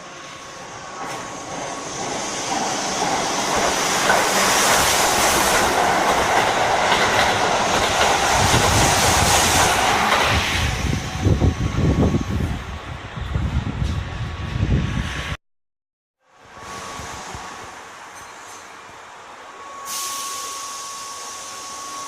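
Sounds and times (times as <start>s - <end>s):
electric train passing: 0.0s - 15.4s, 16.2s - 22.0s.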